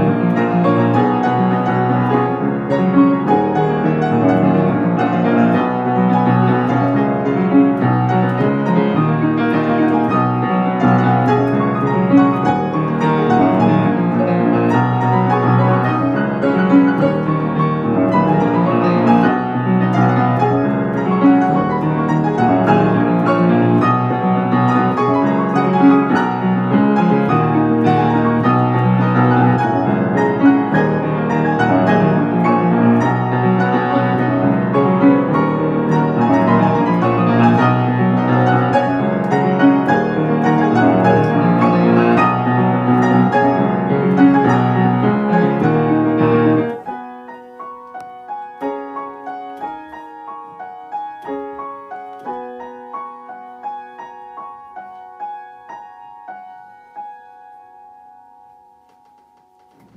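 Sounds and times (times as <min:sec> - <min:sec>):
piano duet playing chords: 0:00.0 - 0:59.9
single piano notes: 0:00.0 - 0:59.9.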